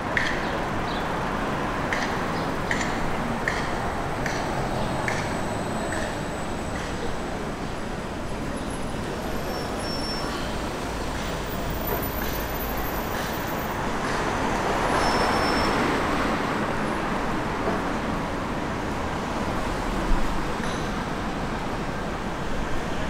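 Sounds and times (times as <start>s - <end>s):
road vehicles passing: 0.0s - 23.0s.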